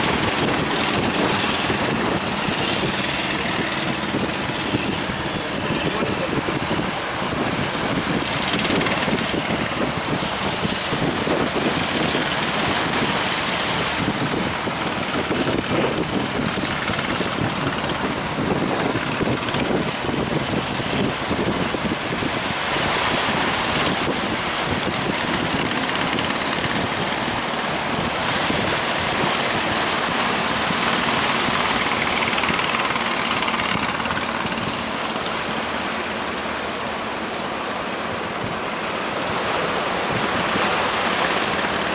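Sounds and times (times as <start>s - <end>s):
sea waves breaking: 0.0s - 41.9s
wind on microphone: 0.0s - 41.9s.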